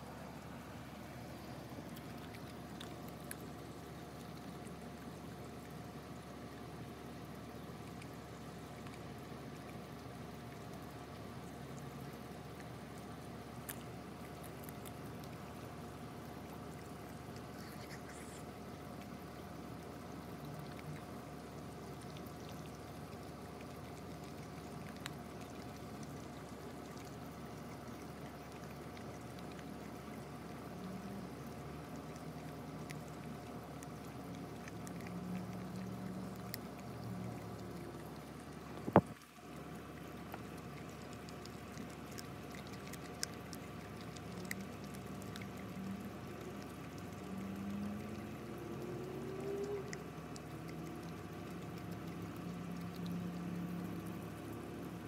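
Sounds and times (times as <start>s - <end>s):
puppy chewing and licking: 0.0s - 55.0s.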